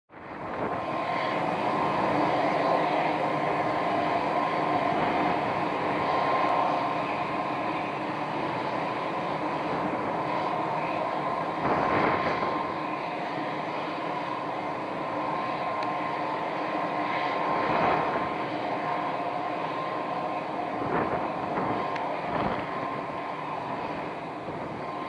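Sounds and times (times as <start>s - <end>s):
helicopter turbine whine: 0.1s - 25.0s.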